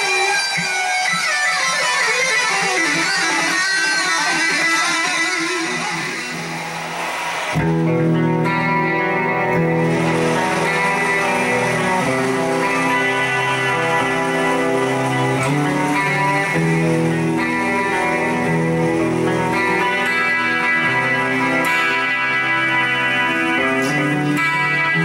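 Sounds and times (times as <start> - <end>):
electric guitar with effects: 0.0 - 25.0.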